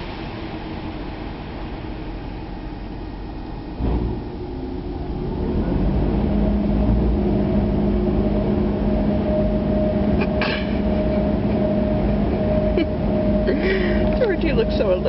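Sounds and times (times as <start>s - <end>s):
car interior mechanical hum: 0.0s - 15.0s.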